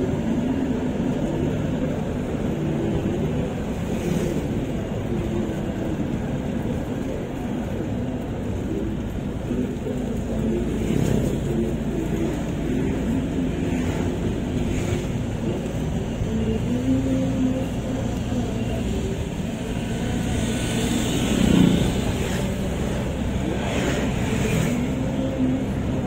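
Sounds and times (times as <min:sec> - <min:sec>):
car driving rumble: 0:00.0 - 0:26.0.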